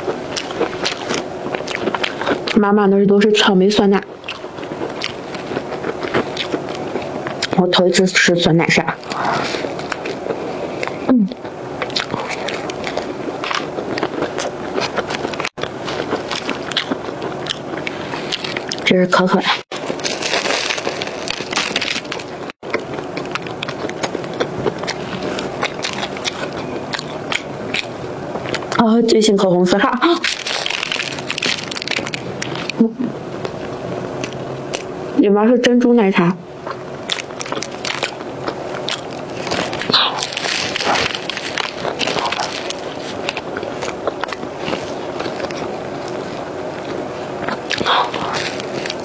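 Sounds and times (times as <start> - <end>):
close chewing and lip-smacking: 0.0 - 2.6, 4.0 - 7.7, 9.0 - 28.8, 30.2 - 34.9, 36.6 - 49.0.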